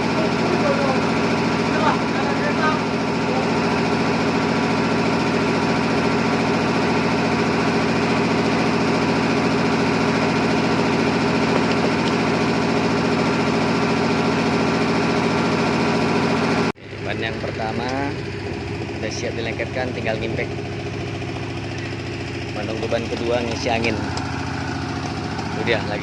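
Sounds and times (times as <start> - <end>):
motor running steadily: 0.0 - 26.0.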